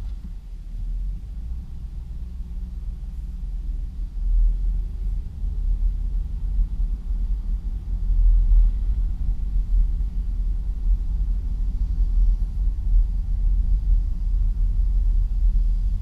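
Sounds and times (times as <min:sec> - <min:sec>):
pickup truck engine and road noise: 0:00.0 - 0:16.0.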